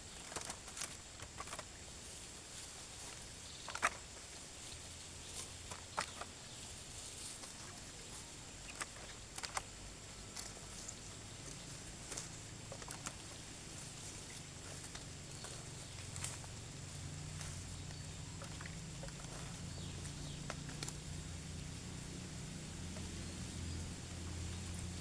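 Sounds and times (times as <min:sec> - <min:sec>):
faint low hum: 0:00.0 - 0:25.0
snaps and rustles in dry leaves: 0:00.0 - 0:25.0.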